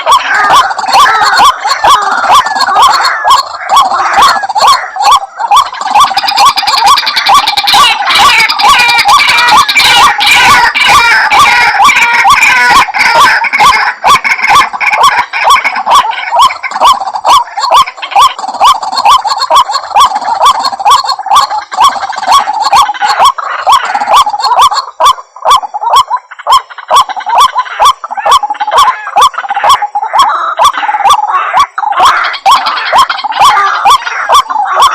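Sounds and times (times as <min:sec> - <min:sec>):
waterhen calling: 0:00.0 - 0:34.9.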